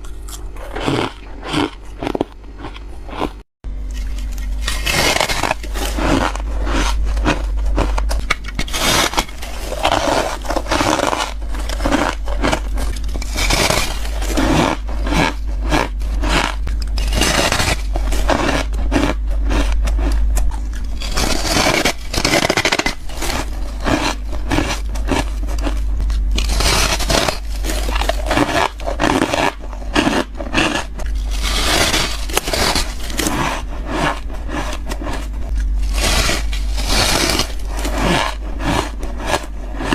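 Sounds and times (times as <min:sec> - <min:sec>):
ice being chewed: 0:00.0 - 0:39.9
steady low hum: 0:00.0 - 0:39.9.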